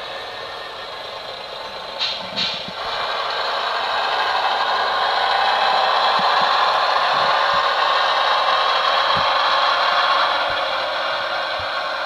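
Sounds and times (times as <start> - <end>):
tinny simulated diesel engine: 0.0 - 12.0.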